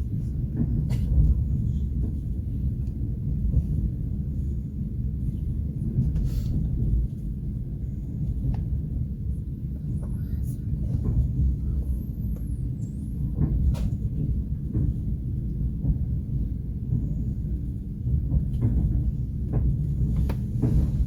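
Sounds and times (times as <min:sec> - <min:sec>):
train carriage rumbling on rails: 0:00.0 - 0:21.0.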